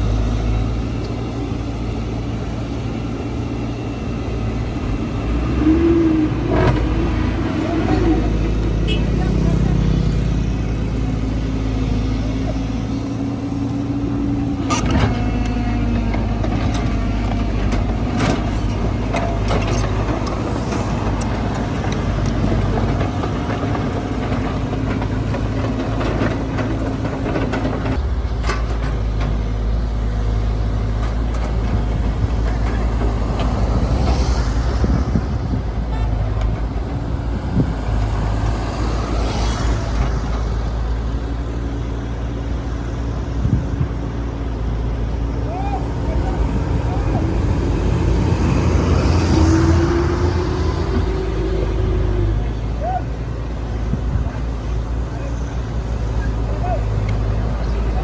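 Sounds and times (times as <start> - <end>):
heavy machinery engines rumbling: 0.0 - 58.0.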